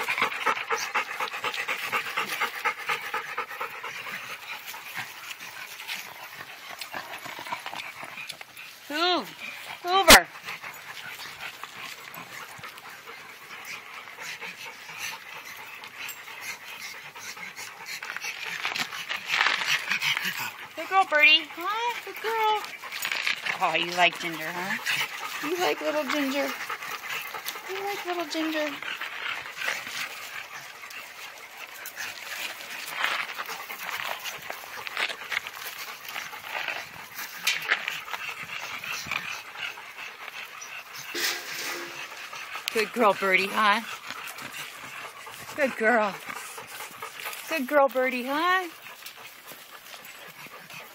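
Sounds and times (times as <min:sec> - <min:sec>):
dog panting fast: 0:00.0 - 0:50.9
scuffling on gravelly dirt: 0:00.0 - 0:50.9.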